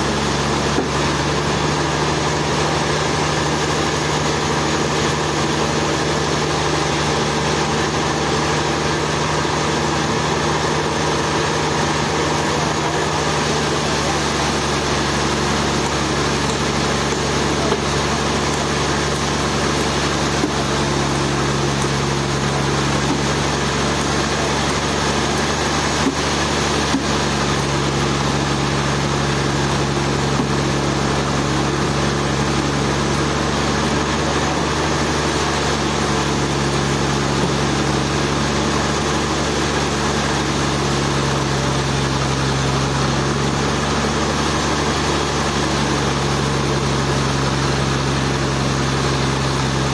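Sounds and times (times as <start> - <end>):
sawmill machinery motor drone: 0.0 - 49.9.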